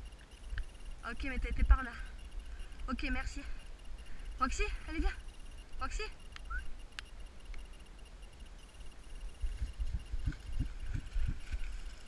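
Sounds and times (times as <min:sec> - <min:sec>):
faint steady high tone: 0:00.0 - 0:12.0.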